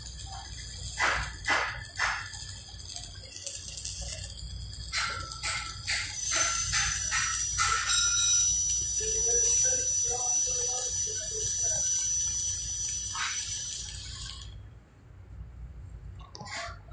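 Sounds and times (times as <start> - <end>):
welding arc crackling: 0.0 - 14.6.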